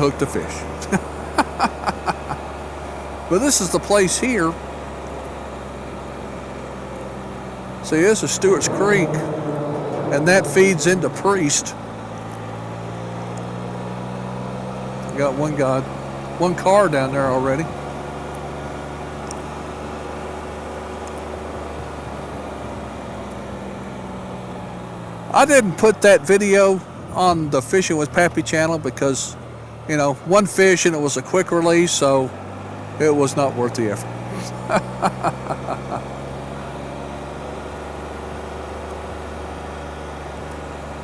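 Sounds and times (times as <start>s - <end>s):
car engine running inside cabin: 0.0s - 41.0s.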